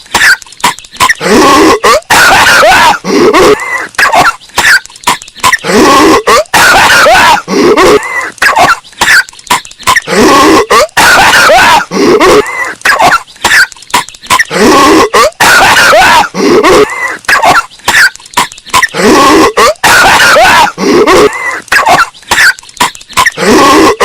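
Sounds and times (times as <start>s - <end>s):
distorted cartoon voice coughing: 0.0s - 24.0s.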